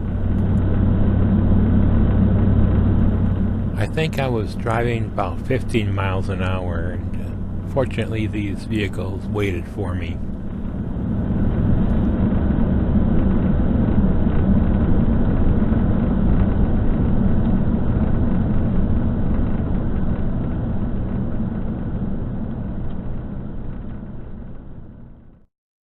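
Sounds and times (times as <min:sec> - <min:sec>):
vehicle engine and road rumble: 0:00.0 - 0:25.4.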